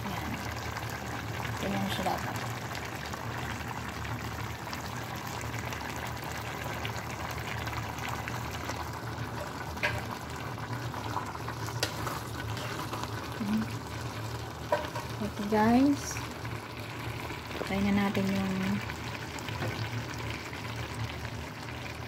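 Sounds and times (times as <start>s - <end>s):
sauce bubbling: 0.0s - 22.0s.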